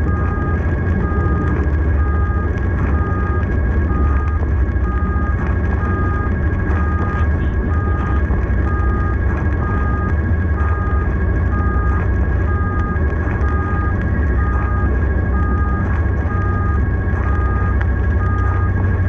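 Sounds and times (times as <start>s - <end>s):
road noise: 0.0s - 19.0s
two-tone siren: 0.0s - 19.0s
vehicle engine rumble: 0.0s - 19.0s.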